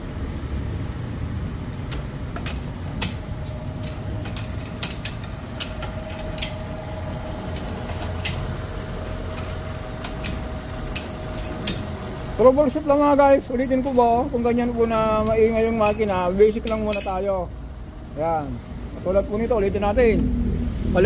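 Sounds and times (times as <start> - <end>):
engine idling: 0.0 - 21.0
thin steady whine: 0.0 - 21.0.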